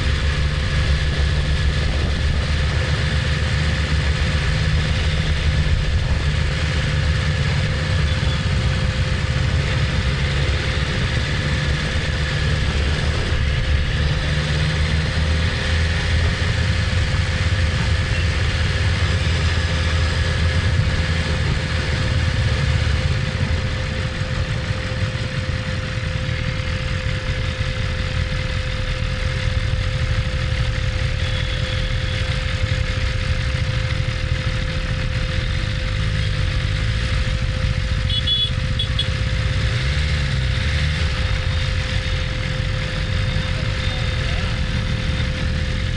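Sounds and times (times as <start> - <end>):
motorcycle engine low rumble: 0.0 - 45.9.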